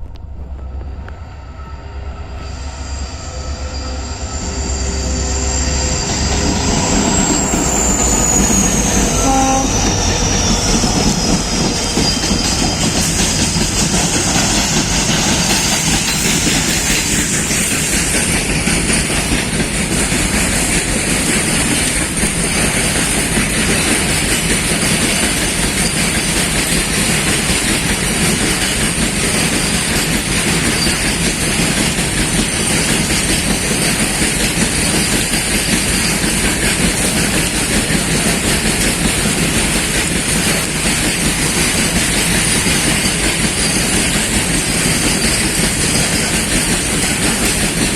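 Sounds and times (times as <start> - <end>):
train wheels running on rails: 0.0 - 47.9.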